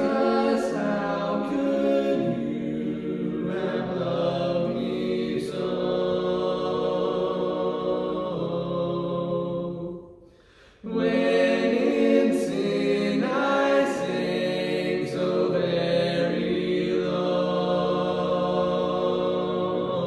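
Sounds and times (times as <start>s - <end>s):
people singing in close harmony: 0.0s - 20.0s.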